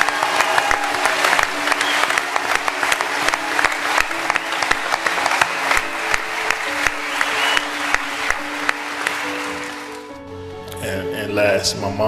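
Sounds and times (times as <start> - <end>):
audience applauding: 0.0 - 10.2
music of slow held notes: 0.0 - 11.9.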